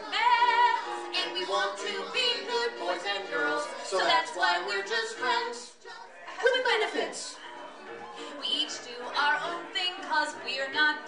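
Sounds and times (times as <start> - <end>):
man and woman singing: 0.0 - 7.4, 8.4 - 11.0.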